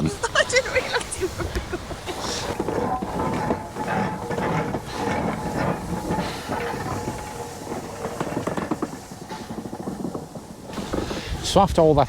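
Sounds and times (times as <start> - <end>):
steam hissing: 0.0 - 12.0
train wheels clattering over rails: 0.0 - 12.0.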